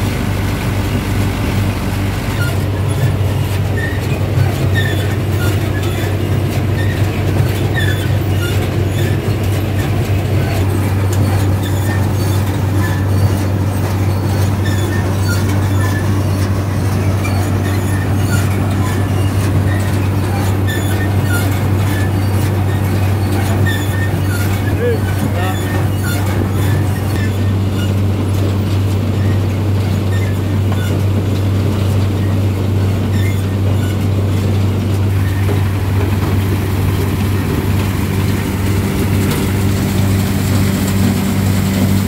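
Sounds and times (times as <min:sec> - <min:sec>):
heavy machinery droning: 0:00.0 - 0:42.0
metallic squeaks and clicks: 0:02.3 - 0:42.0.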